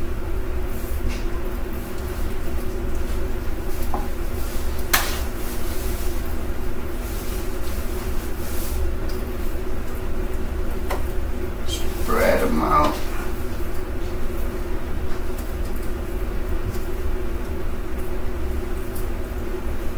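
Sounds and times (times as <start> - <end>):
mechanical hum and hiss: 0.0 - 19.9.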